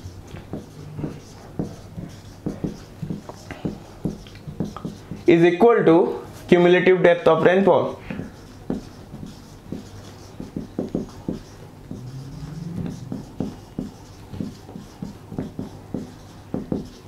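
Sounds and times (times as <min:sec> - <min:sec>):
marker pen writing on whiteboard: 0:00.0 - 0:05.7, 0:07.3 - 0:17.0.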